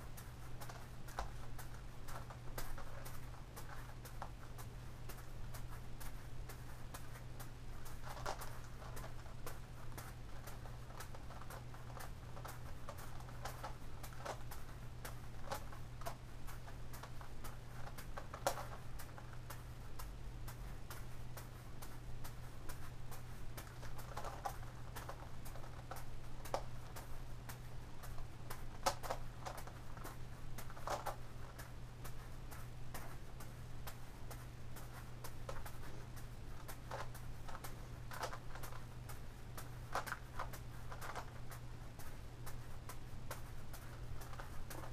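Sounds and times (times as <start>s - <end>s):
juggling balls caught in hand: 0.0s - 44.9s.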